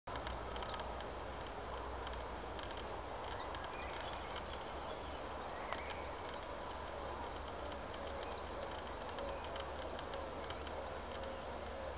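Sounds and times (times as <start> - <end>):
low rumble and hiss: 0.1 - 11.9
small birds chirping: 0.1 - 11.9.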